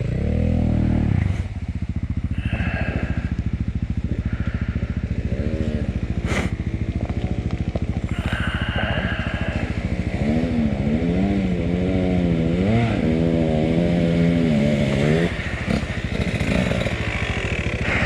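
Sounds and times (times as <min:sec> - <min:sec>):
engine revving up and down: 0:00.0 - 0:01.6, 0:02.2 - 0:18.0
motorcycle engine idling: 0:00.0 - 0:18.0.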